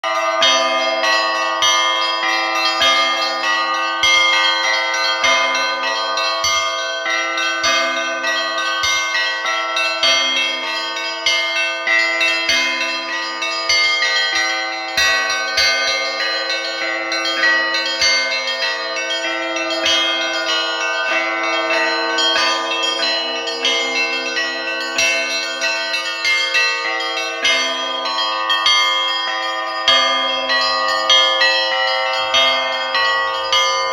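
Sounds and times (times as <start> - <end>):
deep bells striking: 0.0 - 33.9
higher church bells chiming: 0.0 - 33.9.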